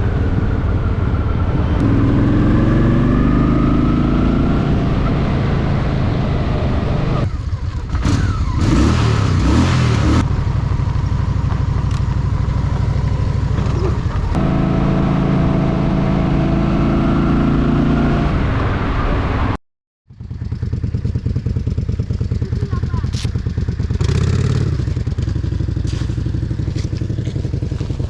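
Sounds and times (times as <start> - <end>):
motorcycle engine running: 0.0 - 16.9, 20.1 - 28.0.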